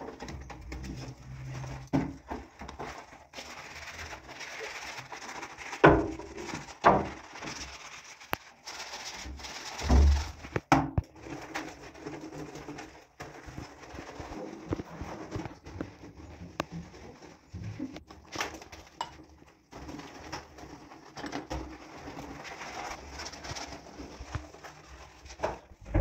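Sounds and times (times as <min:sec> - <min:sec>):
sponge scrubbing wet tiles: 0:00.0 - 0:26.0.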